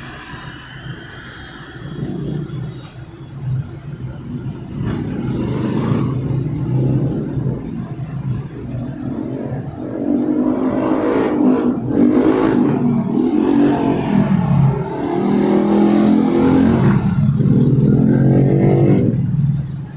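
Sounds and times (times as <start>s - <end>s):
vehicle engines revving: 1.9s - 19.9s.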